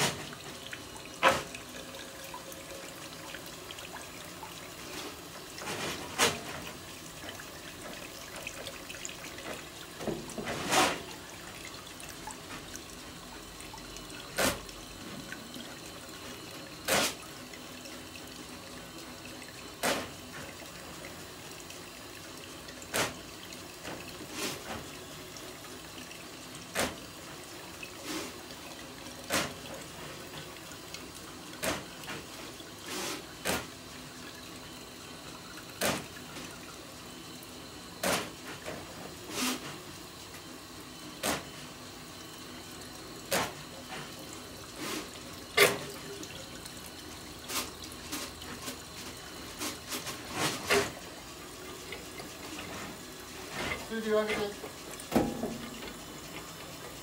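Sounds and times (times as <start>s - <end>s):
water running: 0.0s - 57.0s.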